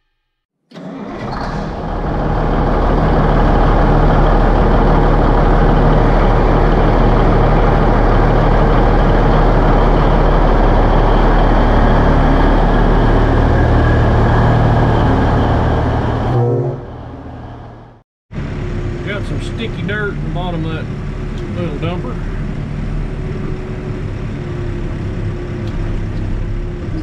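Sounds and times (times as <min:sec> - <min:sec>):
truck diesel engine idling: 0:00.8 - 0:27.0.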